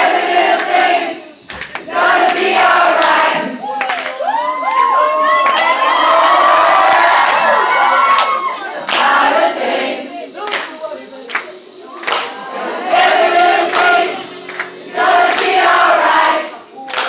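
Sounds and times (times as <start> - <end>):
crowd singing along: 0.0 - 3.9, 5.8 - 17.0.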